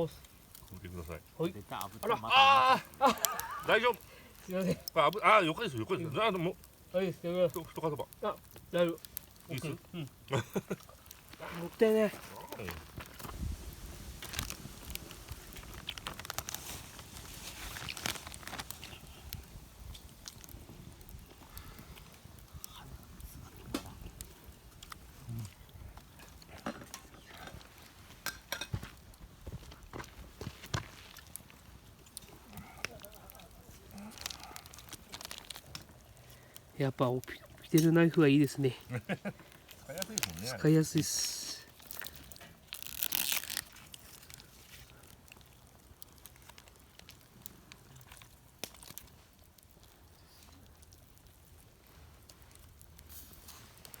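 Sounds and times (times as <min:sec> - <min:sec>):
crinkling rustle: 0:00.0 - 0:54.0.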